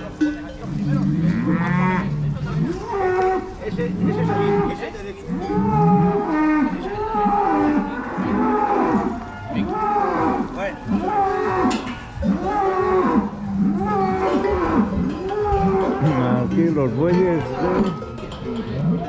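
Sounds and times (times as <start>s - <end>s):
cattle mooing: 0.7s - 16.6s.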